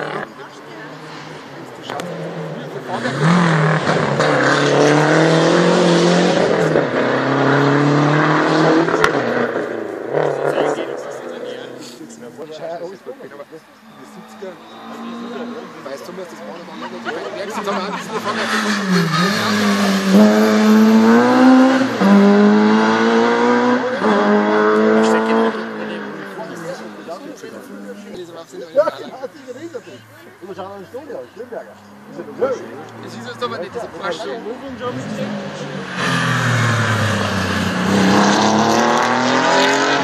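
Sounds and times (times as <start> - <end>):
rally car engine accelerating: 0.0 - 11.9, 14.6 - 27.1, 31.8 - 40.0.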